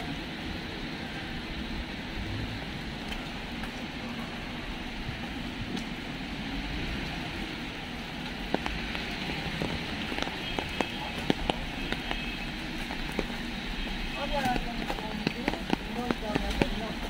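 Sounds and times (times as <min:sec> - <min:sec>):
steady rain on street: 0:00.0 - 0:17.0
traffic on wet road: 0:00.0 - 0:17.0.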